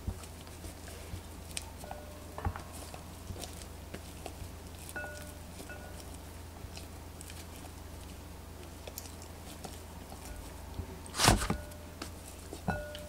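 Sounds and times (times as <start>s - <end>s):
sticky dough squishes: 0.0s - 13.0s.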